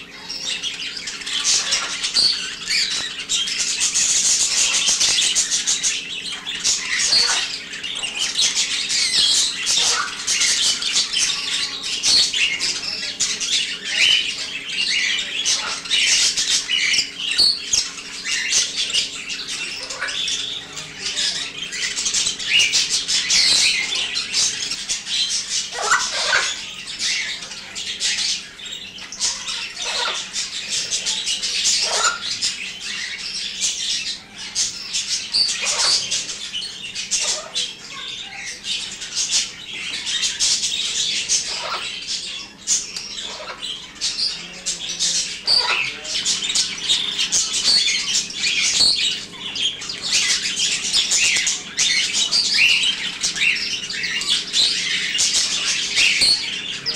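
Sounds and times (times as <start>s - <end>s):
cage birds chattering and squawking: 0.0s - 56.9s.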